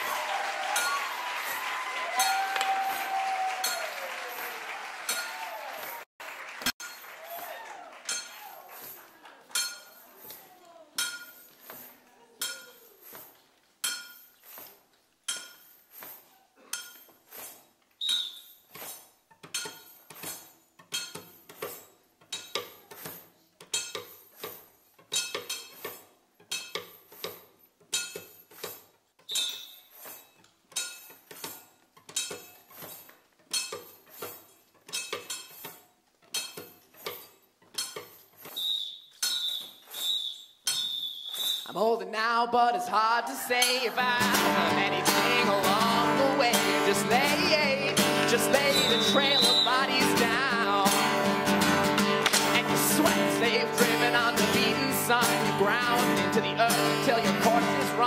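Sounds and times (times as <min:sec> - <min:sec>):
hand tools striking metal: 0:00.0 - 0:04.5, 0:05.1 - 0:05.9, 0:06.7 - 0:41.8, 0:43.6 - 0:58.0.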